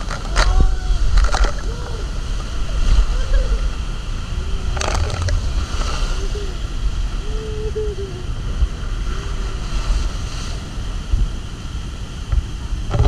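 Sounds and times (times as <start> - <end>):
water rushing in slide tube: 0.0 - 11.5
heavy low rumble: 0.0 - 13.0.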